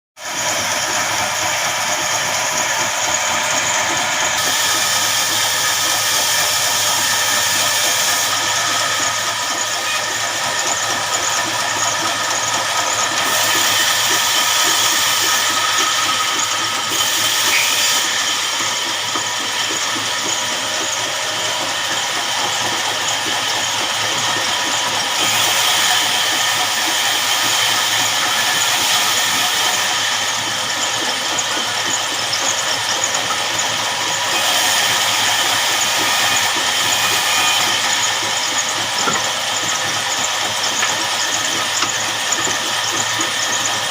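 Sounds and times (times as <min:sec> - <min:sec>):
band saw cutting log: 0:00.2 - 0:43.9.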